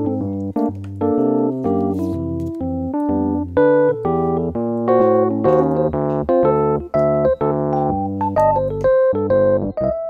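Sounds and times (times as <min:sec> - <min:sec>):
electric piano melody: 0:00.0 - 0:10.0
low bass line: 0:00.0 - 0:10.0.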